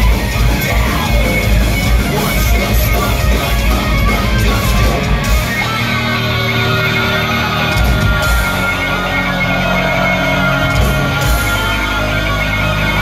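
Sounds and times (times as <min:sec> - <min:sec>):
live thrash metal band: 0:00.0 - 0:13.0.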